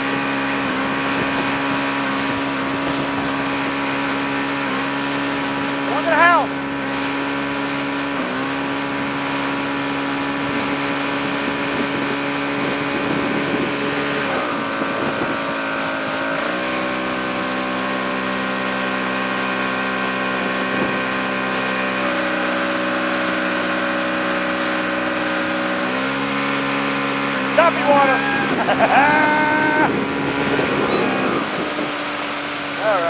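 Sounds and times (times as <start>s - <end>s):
motorboat engine running: 0.0s - 33.0s.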